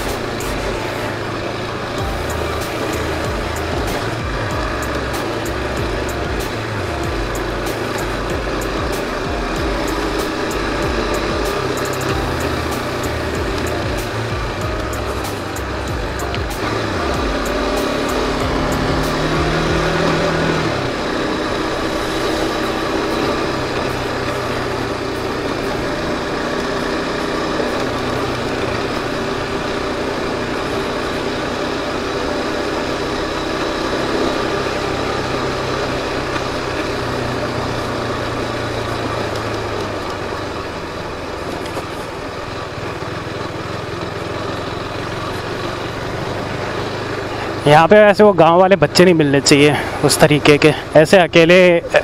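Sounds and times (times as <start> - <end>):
constant rushing noise: 0.0 - 52.0
motorcycle engine at low revs: 0.0 - 52.0.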